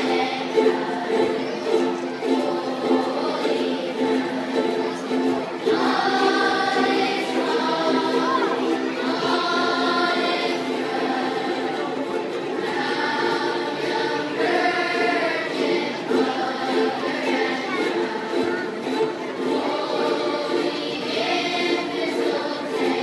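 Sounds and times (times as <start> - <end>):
children's choir singing: 0.0 - 23.0
strummed ukuleles: 0.0 - 23.0.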